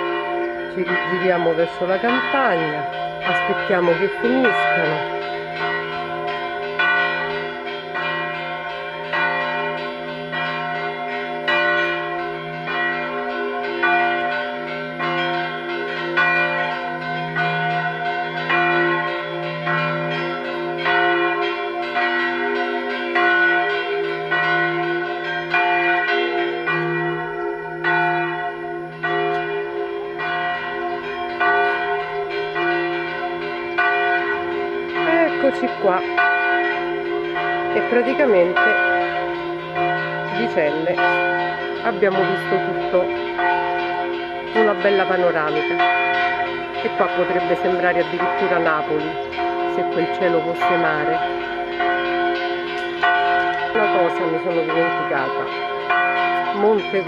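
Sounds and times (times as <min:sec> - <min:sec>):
church bells pealing: 0:00.0 - 0:57.0.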